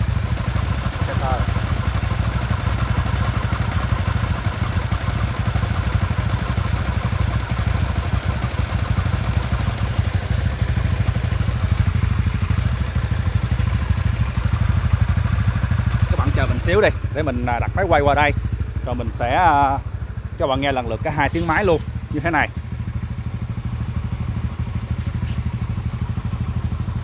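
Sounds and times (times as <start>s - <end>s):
motorcycle engines idling: 0.0s - 27.0s.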